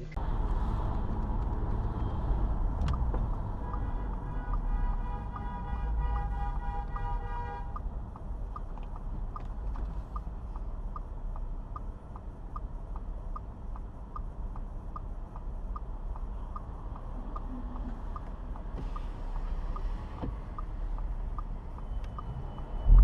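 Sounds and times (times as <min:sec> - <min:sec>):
engine and road noise rumble: 0:00.0 - 0:23.0
turn signal ticking: 0:00.1 - 0:23.0.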